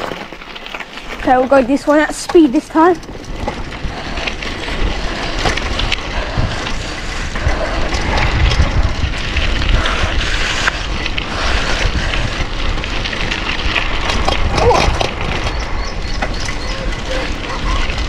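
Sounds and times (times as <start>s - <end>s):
bicycle tyres on gritty dirt: 0.0s - 18.0s
bike clicks and rattles: 0.0s - 18.0s
wind buffeting microphone: 1.0s - 18.0s.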